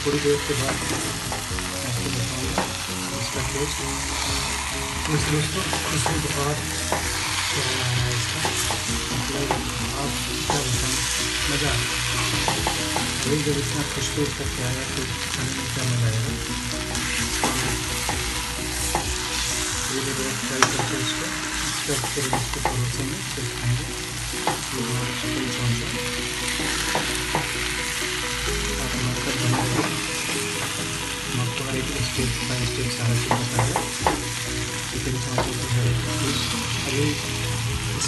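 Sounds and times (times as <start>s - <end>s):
chicken sizzling in a pan: 0.0s - 38.0s.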